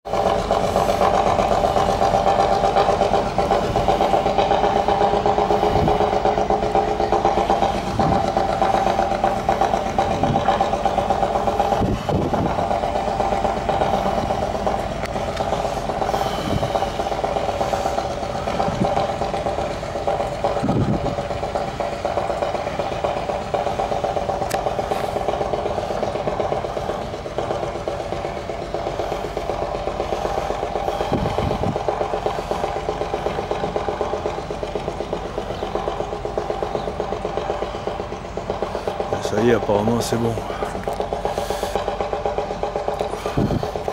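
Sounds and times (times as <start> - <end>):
diesel engine running: 0.0 - 43.9
wheels and couplings knocking: 0.1 - 43.9.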